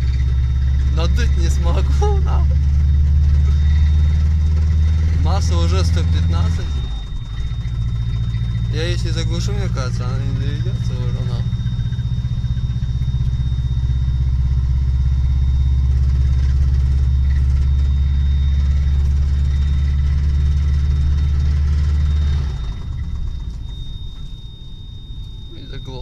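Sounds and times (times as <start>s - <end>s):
engine running with knock: 0.0s - 24.4s.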